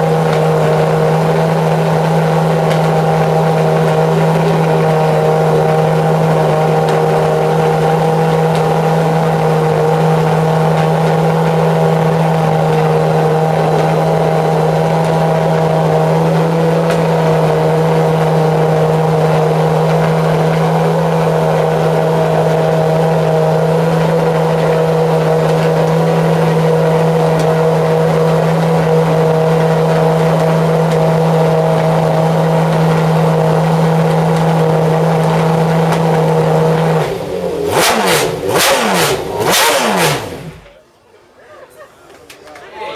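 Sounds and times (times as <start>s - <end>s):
race car engine idling: 0.0s - 40.9s.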